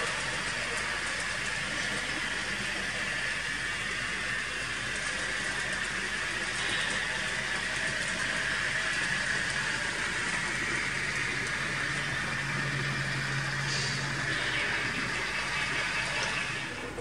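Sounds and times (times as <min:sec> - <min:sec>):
low hum: 0:00.0 - 0:17.0
model train motors whirring: 0:00.0 - 0:17.0
wheels rolling on track: 0:00.0 - 0:17.0.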